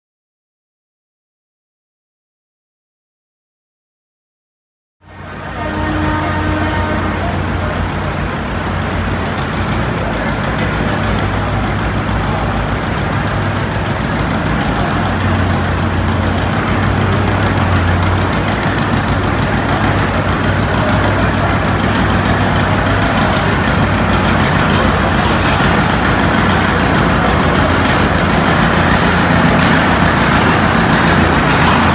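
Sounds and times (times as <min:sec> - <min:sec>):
tractor engine running: 0:05.1 - 0:31.9.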